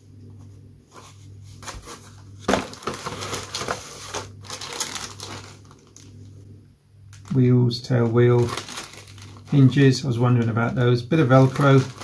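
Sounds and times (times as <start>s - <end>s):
steady low hum: 0.0s - 12.0s
paper and plastic rustling: 0.9s - 6.2s, 7.2s - 12.0s.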